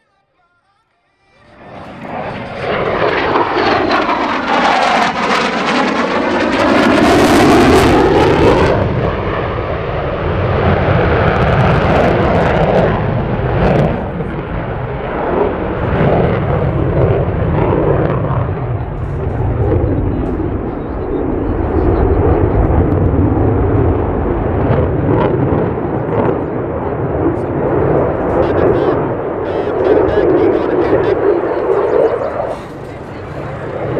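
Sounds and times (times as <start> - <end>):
jet roar with afterburner: 1.4 - 33.9.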